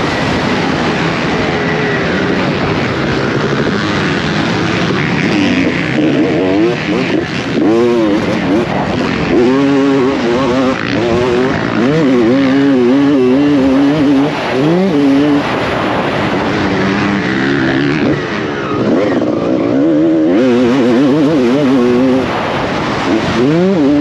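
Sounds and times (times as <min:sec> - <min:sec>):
motocross engine revving: 0:00.0 - 0:24.0.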